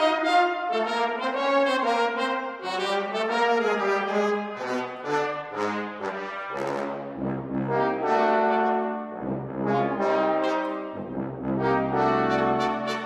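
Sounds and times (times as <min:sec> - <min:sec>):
brass ensemble playing: 0:00.0 - 0:13.0.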